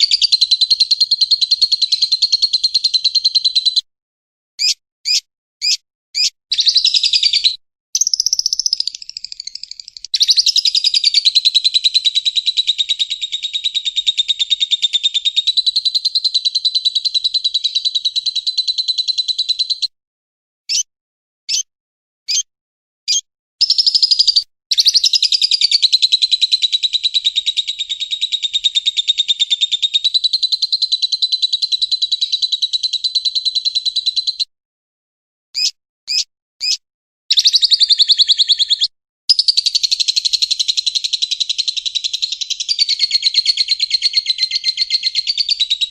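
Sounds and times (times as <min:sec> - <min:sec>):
bird chirps: 0:00.0 - 0:03.9, 0:04.6 - 0:20.0, 0:20.7 - 0:20.9, 0:21.5 - 0:21.7, 0:22.3 - 0:22.5, 0:23.1 - 0:34.5, 0:35.6 - 0:45.9
fast bird trill: 0:00.0 - 0:03.9, 0:04.6 - 0:19.9, 0:20.7 - 0:20.9, 0:21.5 - 0:21.7, 0:22.3 - 0:22.5, 0:23.1 - 0:34.5, 0:35.6 - 0:45.9.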